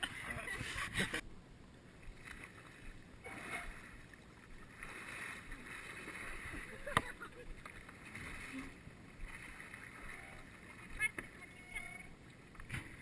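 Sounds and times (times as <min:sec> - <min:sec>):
kayak paddle splashing in water: 0:02.0 - 0:13.0.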